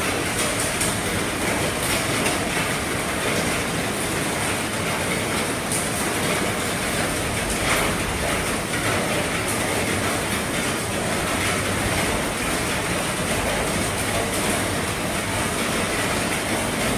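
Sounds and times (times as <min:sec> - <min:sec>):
heavy rain drumming on a roof: 0:00.0 - 0:16.9.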